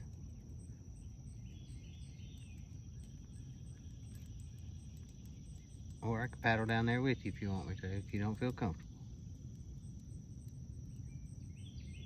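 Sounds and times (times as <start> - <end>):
faint bird chirps: 0.0 - 12.0
high insect drone: 0.0 - 12.0.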